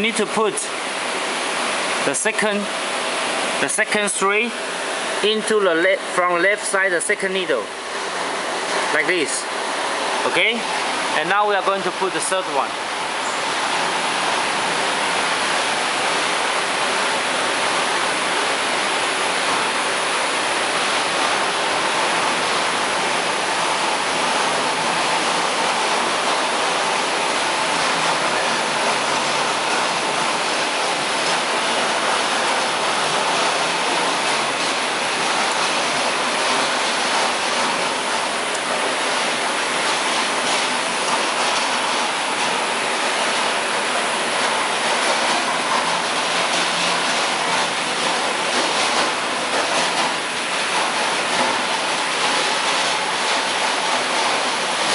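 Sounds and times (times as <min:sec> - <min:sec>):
machine workshop din: 0:00.0 - 0:54.9.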